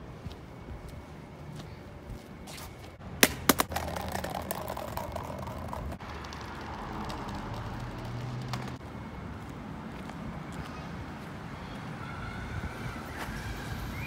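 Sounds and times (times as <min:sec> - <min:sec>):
traffic going by: 0:02.5 - 0:14.0.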